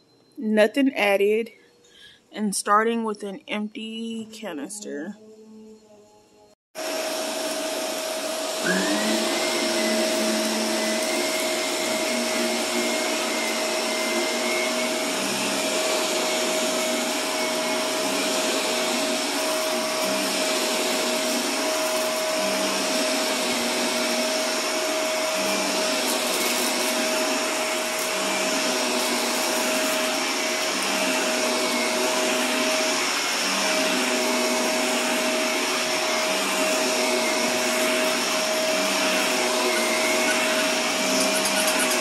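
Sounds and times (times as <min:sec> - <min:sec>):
rising whine: 0:05.4 - 0:42.0
vacuum cleaner running: 0:06.7 - 0:42.0.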